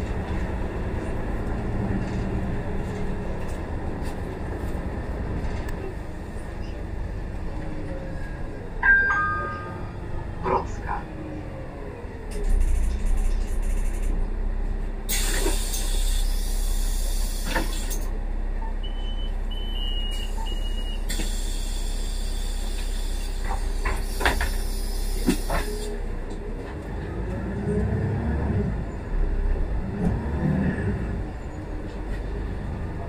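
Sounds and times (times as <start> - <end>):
bus engine rumble: 0.0 - 33.0.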